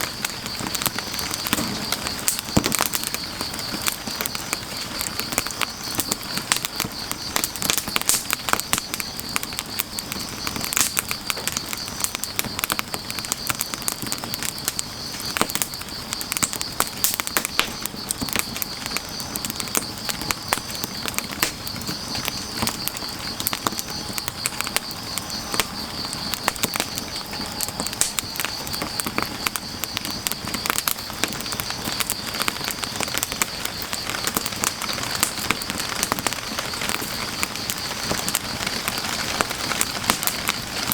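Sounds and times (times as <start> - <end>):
firewood crackling and popping: 0.0 - 40.9
insects chirring: 0.0 - 40.9.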